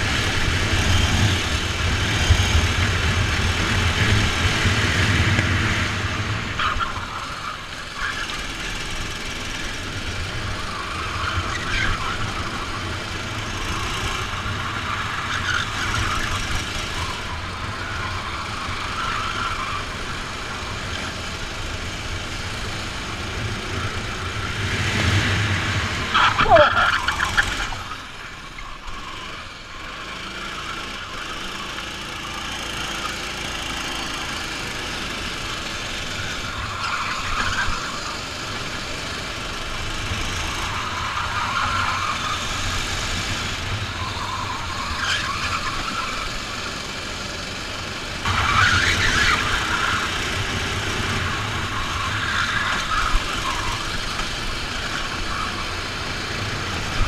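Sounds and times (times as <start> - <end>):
kart engine running flat out: 0.0 - 57.0.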